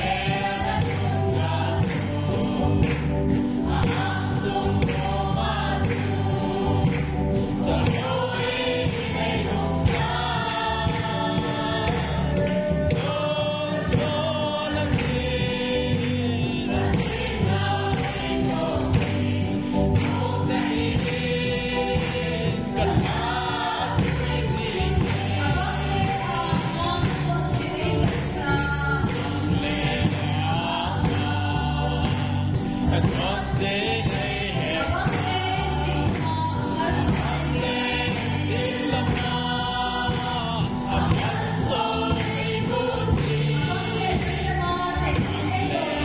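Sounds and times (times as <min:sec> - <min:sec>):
congregation singing a hymn: 0:00.0 - 0:46.0.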